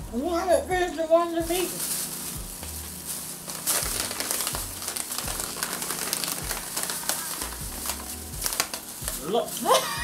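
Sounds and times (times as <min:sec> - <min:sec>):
foil chip bag crinkling: 0:00.9 - 0:10.0.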